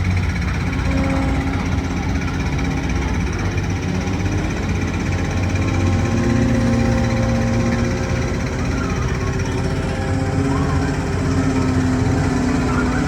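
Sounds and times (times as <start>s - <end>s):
machinery low drone: 0.0s - 13.0s.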